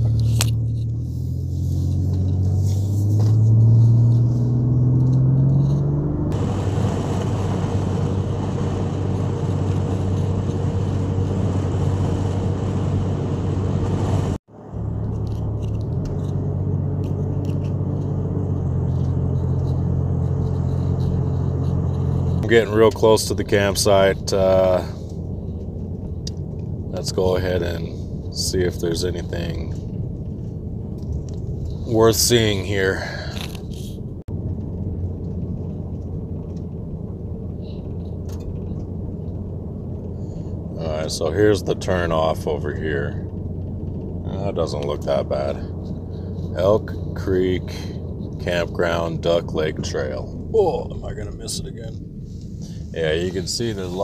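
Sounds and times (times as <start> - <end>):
van engine and road drone: 0.0 - 54.0.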